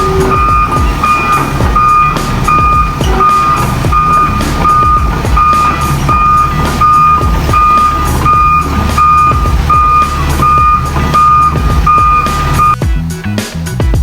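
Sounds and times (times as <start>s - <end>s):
reversing alarm beeping: 0.0s - 12.8s
diesel engine running: 0.0s - 13.2s.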